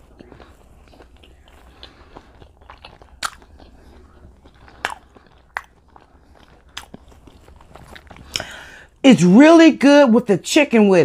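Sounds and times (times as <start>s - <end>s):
person chewing with wet mouth noises: 0.0s - 9.0s.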